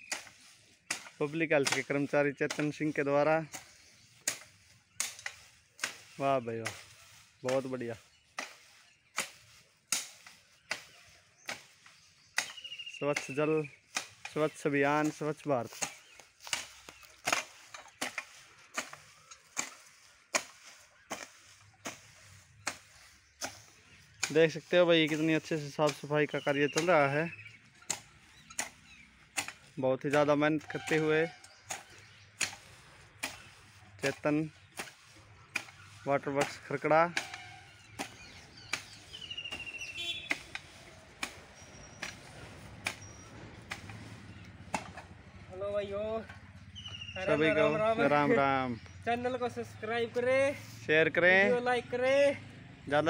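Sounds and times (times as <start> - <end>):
bird chirping: 0.0 - 52.9
hoe scraping leaves and soil: 0.0 - 53.0.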